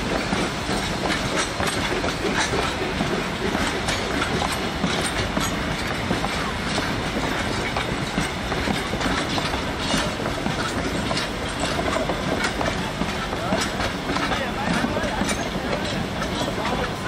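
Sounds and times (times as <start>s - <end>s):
wheels clacking over rail joints: 0.0s - 17.0s
wheels rumbling on rail: 0.0s - 17.0s.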